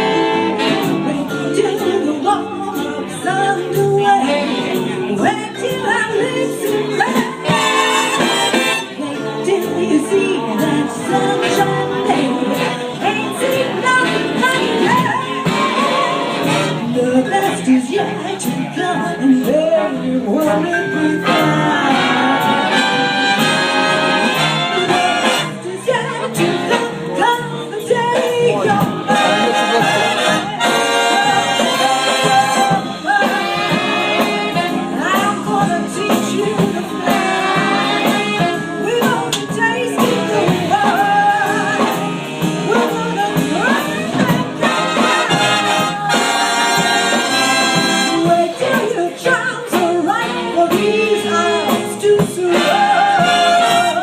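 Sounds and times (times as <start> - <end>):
big band jazz with brass: 0.0 - 54.0.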